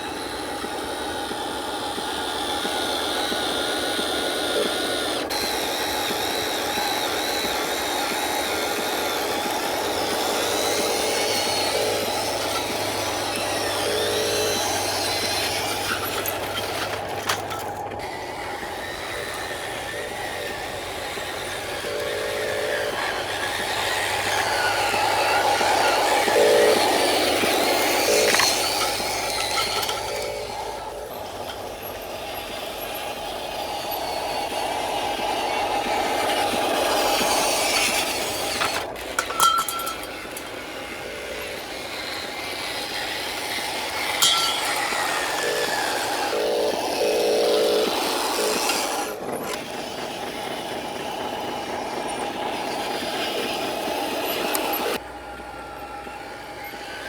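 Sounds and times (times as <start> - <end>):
electric motor and gearbox whining: 0.0 - 57.0.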